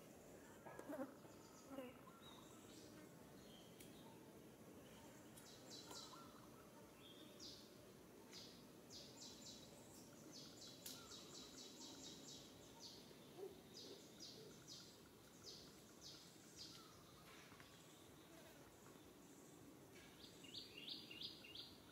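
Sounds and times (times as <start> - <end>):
low background hiss: 0.0 - 21.9.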